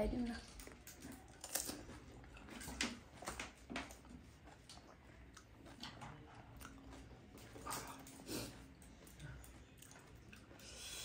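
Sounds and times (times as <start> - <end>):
crunchy chewing: 0.4 - 11.0.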